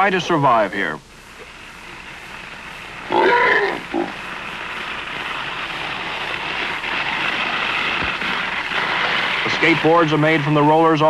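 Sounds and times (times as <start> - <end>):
skateboard wheels rolling on dirt: 2.0 - 11.0.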